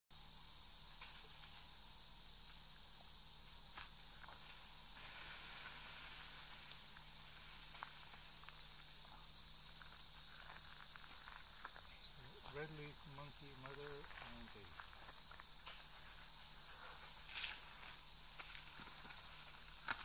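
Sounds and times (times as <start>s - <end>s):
insect chorus hissing: 0.1s - 20.0s.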